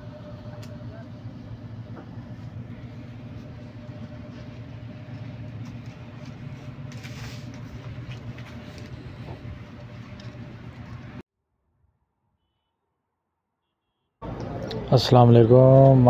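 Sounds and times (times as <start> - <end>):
low mechanical hum of machine: 0.0 - 11.2, 14.2 - 16.0.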